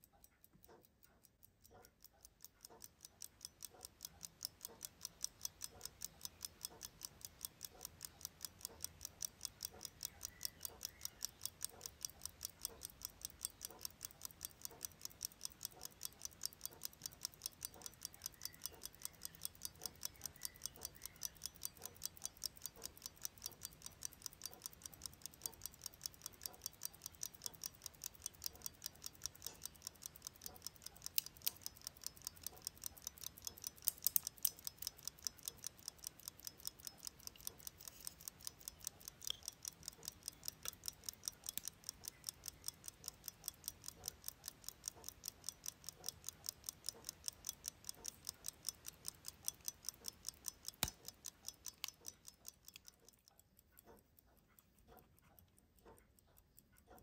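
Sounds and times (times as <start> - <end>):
pocket watch ticking: 0.0 - 57.0.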